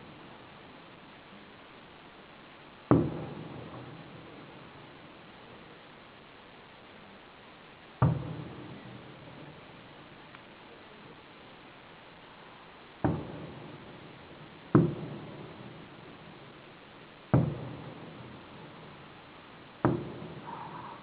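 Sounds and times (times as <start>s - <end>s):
fireworks booming: 0.0s - 6.9s, 7.5s - 21.0s.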